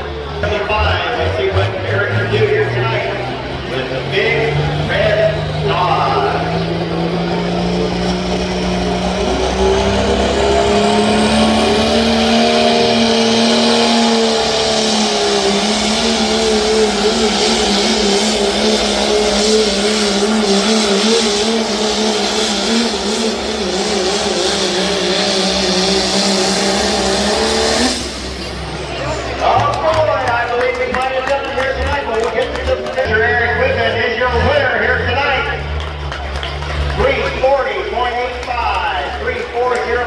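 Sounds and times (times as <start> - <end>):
diesel truck engine at high revs: 0.0 - 40.0.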